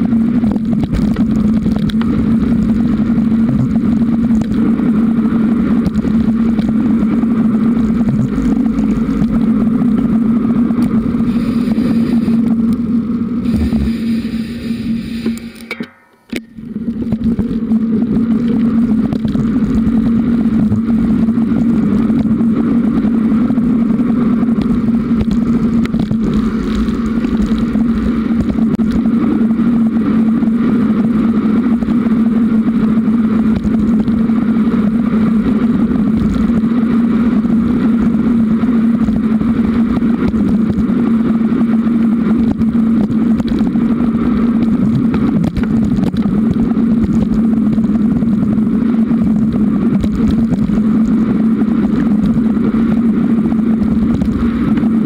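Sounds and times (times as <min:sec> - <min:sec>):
loud low hum: 0:00.0 - 0:55.0
wind noise: 0:00.0 - 0:55.0.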